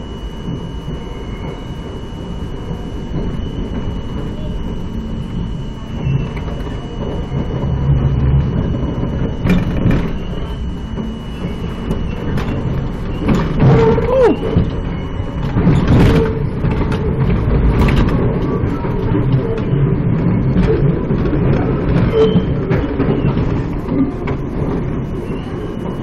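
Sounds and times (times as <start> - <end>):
subway train rumbling in tunnel: 0.0 - 26.0
track clicks and knocks: 0.0 - 26.0.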